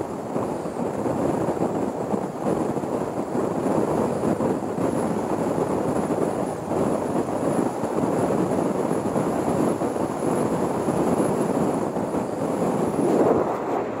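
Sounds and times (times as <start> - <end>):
road and tyre noise: 0.0 - 14.0
wind buffeting microphone: 0.0 - 14.0.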